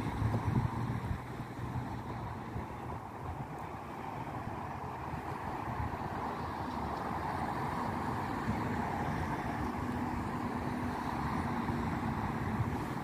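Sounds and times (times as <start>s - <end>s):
distant road traffic hum: 0.0s - 13.0s
wind buffeting microphone: 0.0s - 13.0s.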